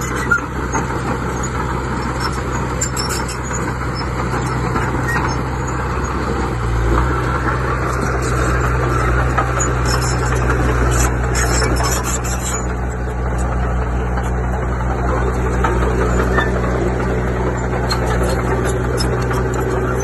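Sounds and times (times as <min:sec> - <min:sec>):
heavy machinery diesel engine: 0:00.0 - 0:20.0.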